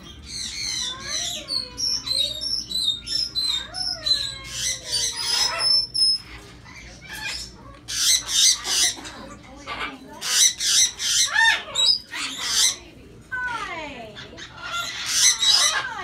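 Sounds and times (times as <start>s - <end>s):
birds chirping and whistling: 0.0s - 13.0s, 14.2s - 16.0s.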